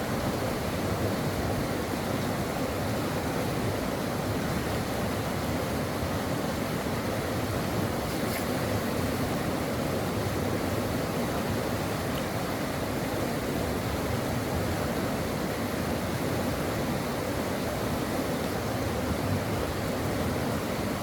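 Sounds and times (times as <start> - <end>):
stream water flowing: 0.0 - 21.0.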